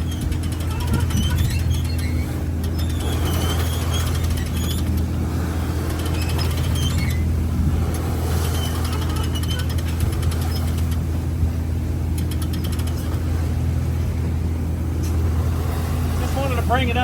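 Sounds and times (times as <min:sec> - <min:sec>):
boat engine running: 0:00.0 - 0:17.0
light squeaks and creaks: 0:00.0 - 0:17.0.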